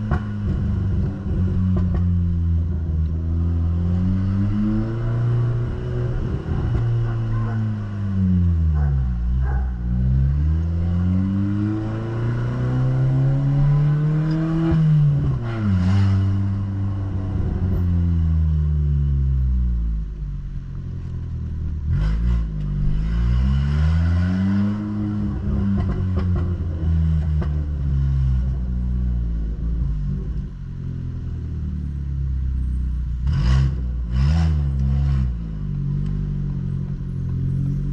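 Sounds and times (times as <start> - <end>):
car engine and exhaust rumbling: 0.0 - 37.9.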